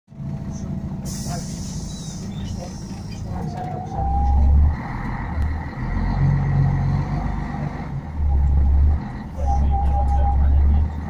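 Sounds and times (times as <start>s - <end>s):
bus diesel engine rumble: 0.1s - 11.0s.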